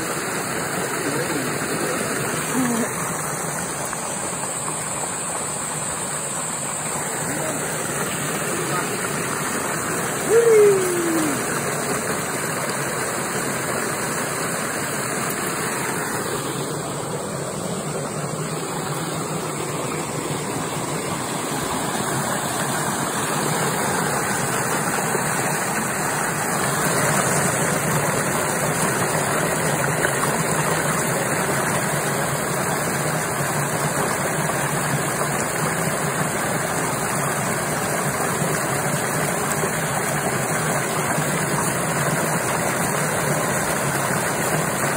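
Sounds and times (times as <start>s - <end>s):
water rushing through channel: 0.0s - 44.9s.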